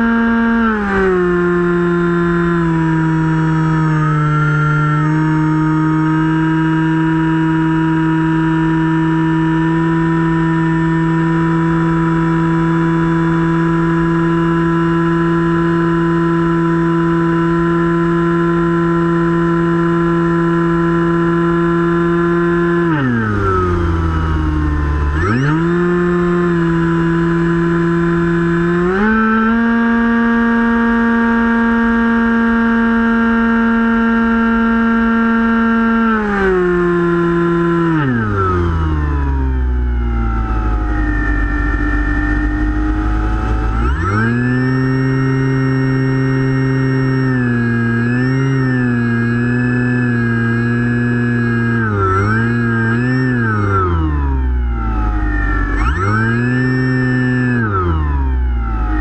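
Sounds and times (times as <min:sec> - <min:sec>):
model plane motor whining: 0:00.0 - 0:59.0.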